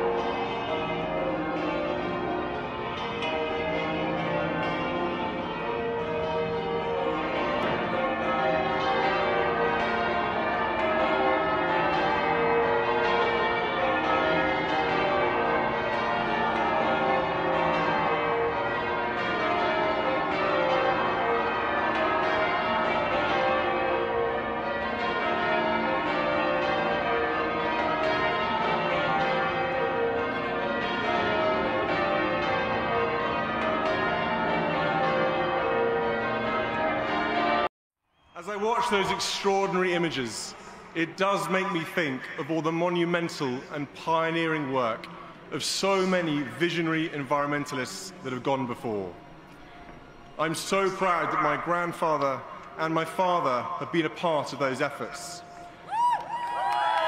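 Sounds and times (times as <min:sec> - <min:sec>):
church bells pealing: 0:00.0 - 0:37.7, 0:38.4 - 0:55.9.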